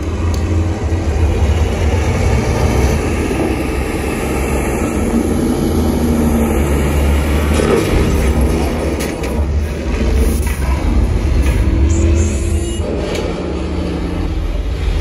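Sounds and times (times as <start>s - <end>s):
heavy vehicles rumbling: 0.0s - 15.0s.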